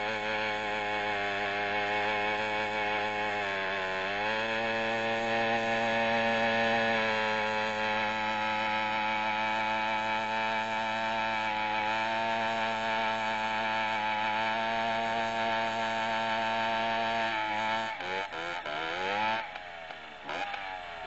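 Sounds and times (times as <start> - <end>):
two-stroke motorcycle engine buzzing: 0.0 - 21.0.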